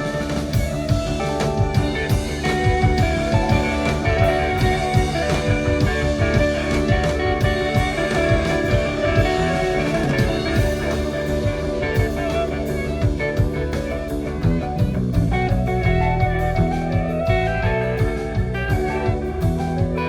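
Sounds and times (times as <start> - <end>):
drum kit beat: 0.0 - 20.0
electric guitar lines: 0.0 - 20.0.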